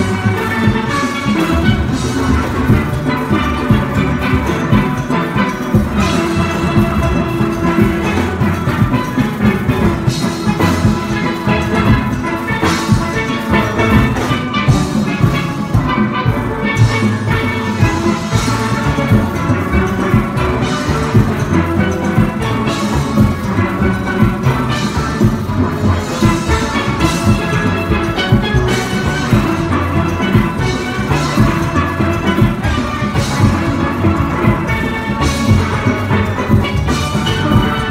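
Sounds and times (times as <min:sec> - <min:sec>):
steel band playing: 0:00.0 - 0:37.9.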